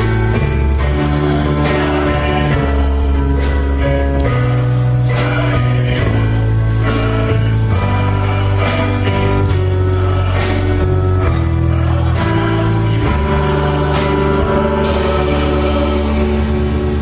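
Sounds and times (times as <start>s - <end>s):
worship band music: 0.0s - 17.0s.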